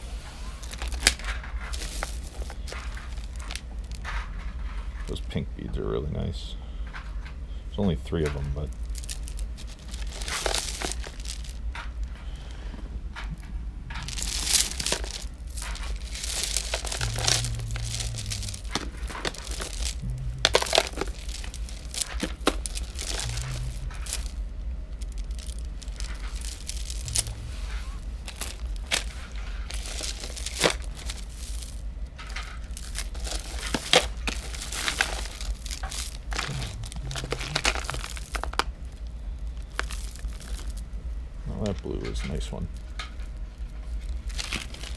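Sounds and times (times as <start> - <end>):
steady low hum: 0.0 - 44.9
beads clicking and rustling: 0.4 - 5.1, 8.2 - 12.3, 13.9 - 41.0, 41.7 - 44.9.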